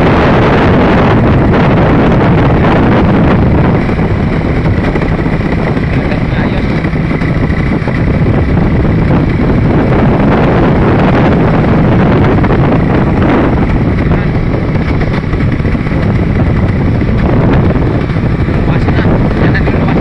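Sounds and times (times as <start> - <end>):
road noise: 0.0 - 20.0
vehicle engine: 0.0 - 20.0.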